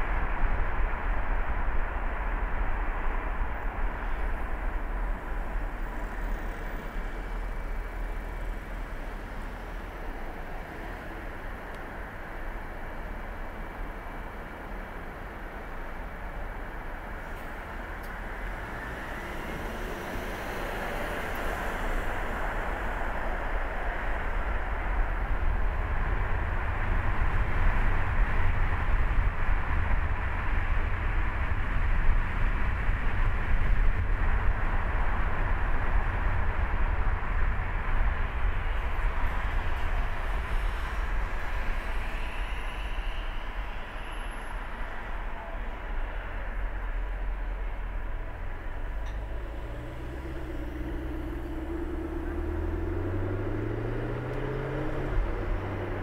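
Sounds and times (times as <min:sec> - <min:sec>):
road and tyre noise: 0:00.0 - 0:56.0.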